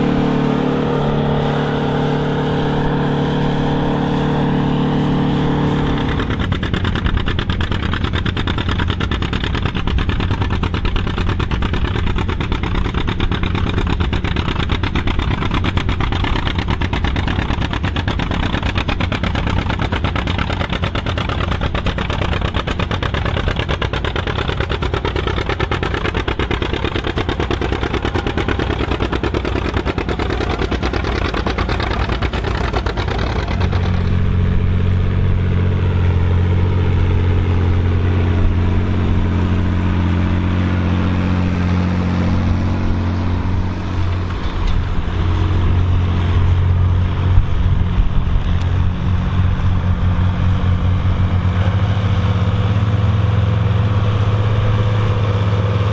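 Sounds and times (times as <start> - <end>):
tractor engine working under load: 0.0 - 55.9.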